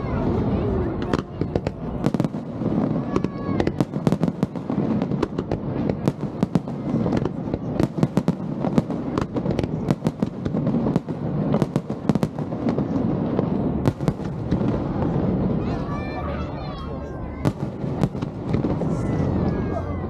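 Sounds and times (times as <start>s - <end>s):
fireworks bangs and pops: 0.0s - 15.9s, 17.4s - 19.7s.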